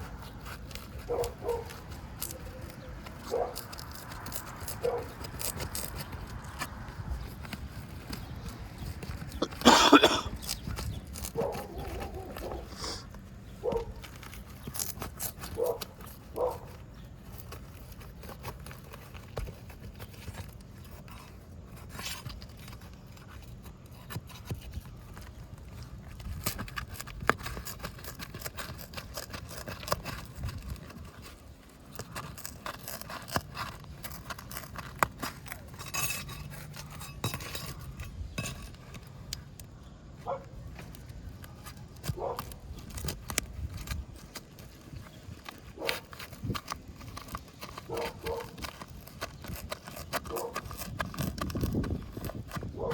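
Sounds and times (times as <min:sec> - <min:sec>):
metal scraping on shingles: 0:00.0 - 0:52.9.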